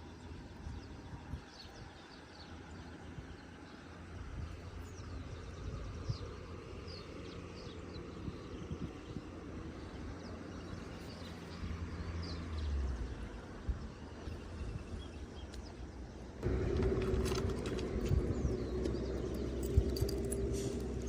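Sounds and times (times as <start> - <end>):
wind buffeting microphone: 0.2 - 21.0.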